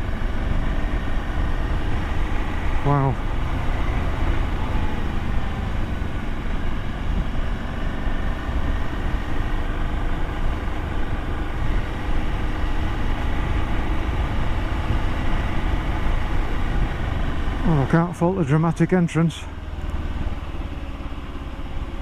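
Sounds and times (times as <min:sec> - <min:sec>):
wind rush on microphone: 0:00.0 - 0:18.0
motorcycle engine running: 0:00.0 - 0:22.0
road noise: 0:00.0 - 0:22.0.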